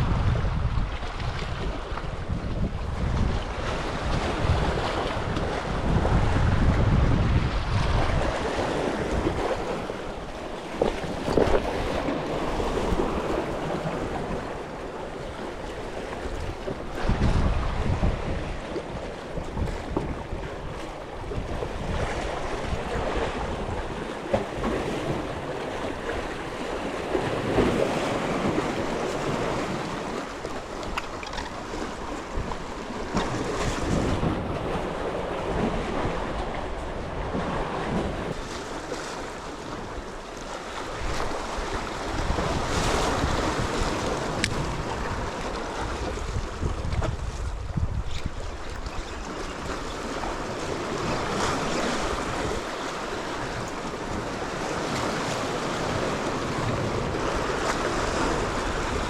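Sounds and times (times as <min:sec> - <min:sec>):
wind buffeting microphone: 0:00.0 - 0:38.6, 0:39.2 - 0:59.0
sea waves washing on shore: 0:00.0 - 0:59.0.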